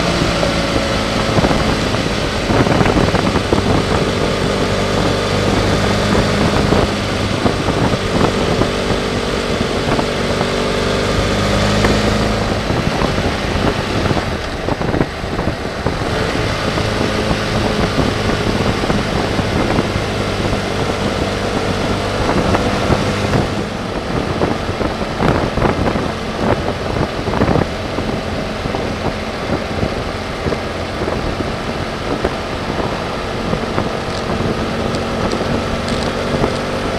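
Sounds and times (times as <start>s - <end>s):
motorcycle engine cruising: 0.0s - 36.9s
wind rushing over microphone: 0.0s - 36.9s.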